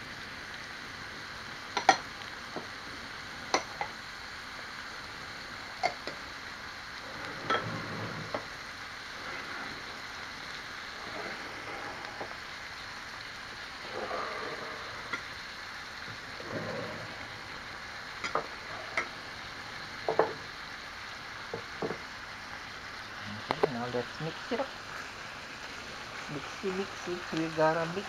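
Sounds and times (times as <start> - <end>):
meat sizzling in a frying pan: 0.0 - 28.0.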